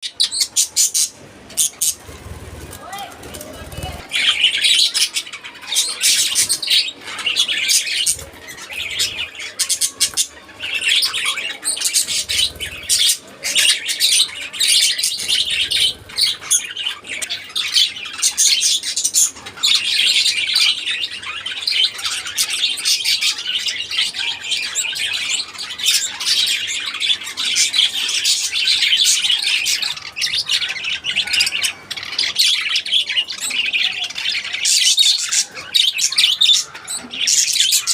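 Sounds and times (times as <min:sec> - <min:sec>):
budgerigars chirping: 0:00.0 - 0:37.9.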